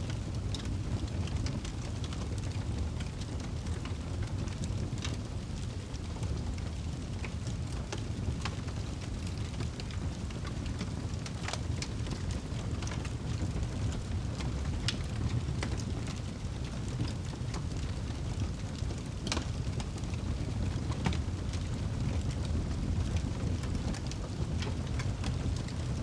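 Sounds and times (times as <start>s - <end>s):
wood fire rumbling: 0.0s - 26.0s
fire crackling and popping: 0.1s - 26.0s.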